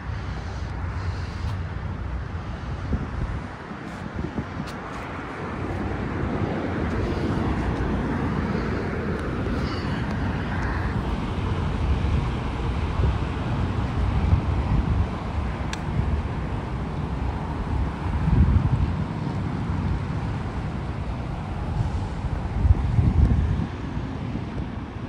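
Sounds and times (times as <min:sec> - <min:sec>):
highway traffic rumble: 0:00.0 - 0:25.0
wind buffeting microphone: 0:00.0 - 0:25.0.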